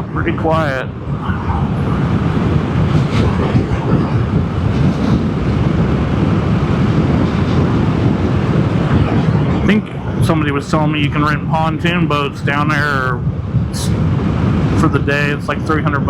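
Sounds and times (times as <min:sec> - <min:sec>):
rushing wind and road noise: 0:00.0 - 0:16.0.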